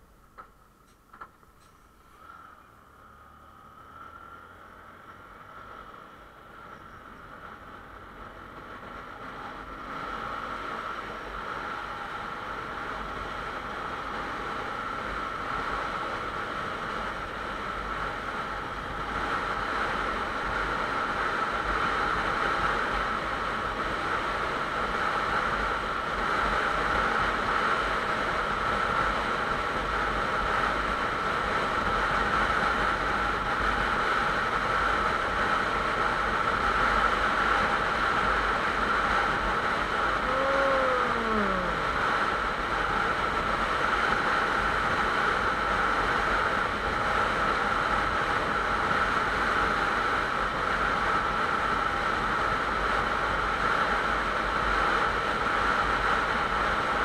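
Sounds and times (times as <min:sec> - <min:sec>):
motorcycle engine and road noise: 0:00.0 - 0:57.0.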